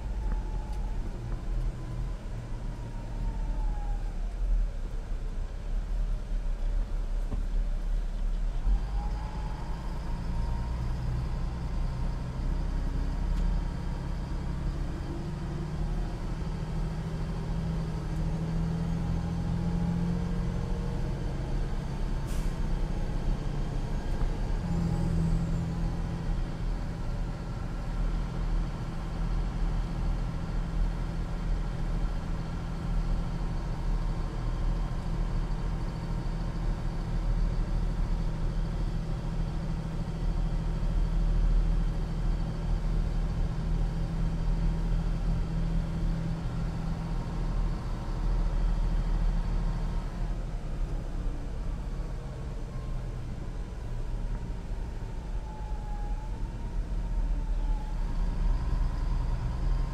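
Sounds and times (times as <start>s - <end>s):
diesel truck engine accelerating: 0.0s - 59.9s.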